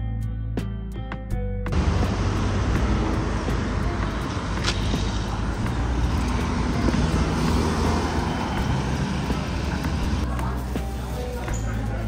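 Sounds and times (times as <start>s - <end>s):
road traffic rumble: 1.7s - 12.0s.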